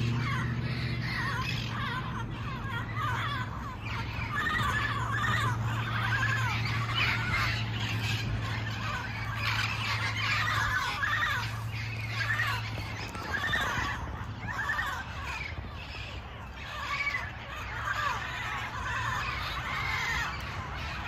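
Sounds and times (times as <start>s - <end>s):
parrots squawking: 0.0s - 21.0s.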